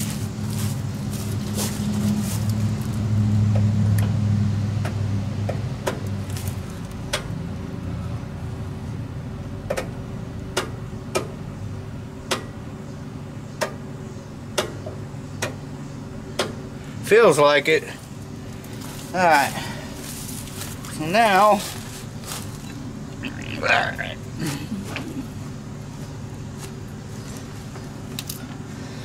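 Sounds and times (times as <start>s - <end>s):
low vehicle hum: 0.0s - 29.0s.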